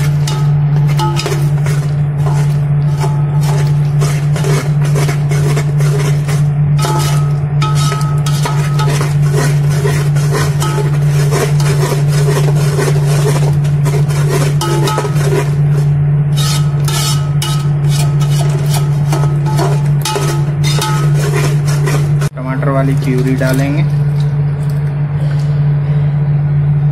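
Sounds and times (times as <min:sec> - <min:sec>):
spatula scraping in a pan: 0:00.0 - 0:22.3
loud low hum: 0:00.0 - 0:26.9.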